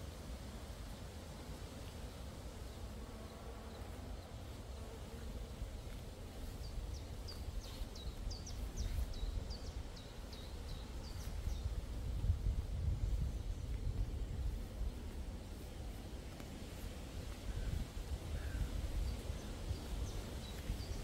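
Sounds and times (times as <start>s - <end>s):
songbird singing: 1.9s - 21.0s.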